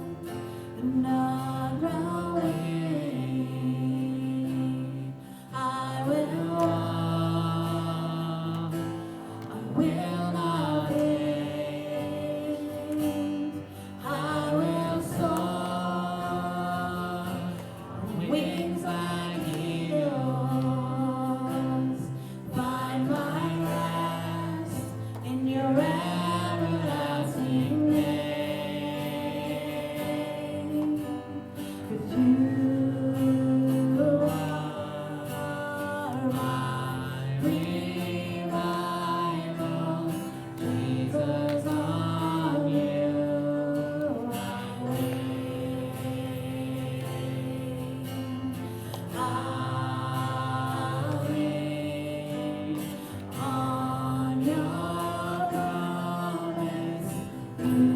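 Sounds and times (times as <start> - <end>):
voices singing gospel: 0.0 - 57.9.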